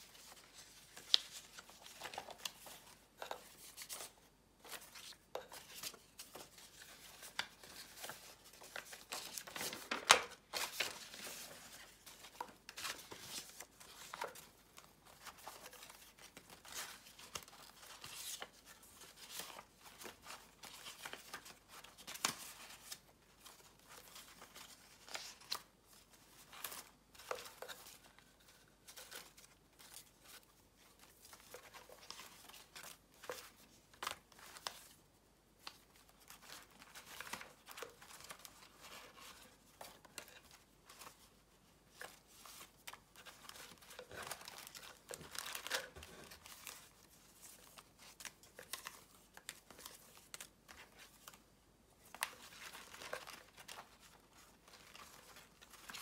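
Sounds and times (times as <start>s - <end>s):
paper rustling and crinkling: 0.0s - 56.0s.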